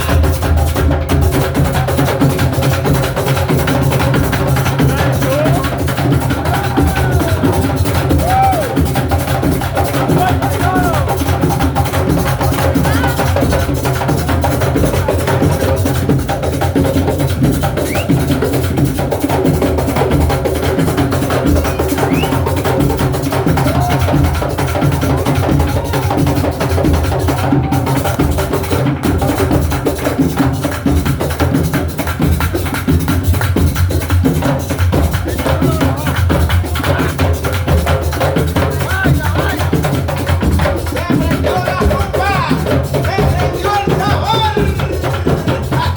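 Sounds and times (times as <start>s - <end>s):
group of drums playing: 0.0s - 45.9s.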